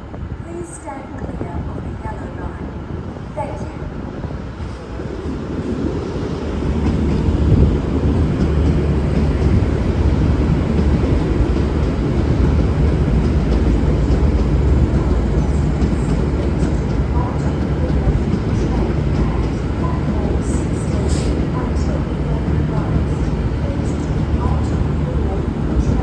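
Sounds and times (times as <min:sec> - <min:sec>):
diesel train engine rumble: 0:00.0 - 0:26.0.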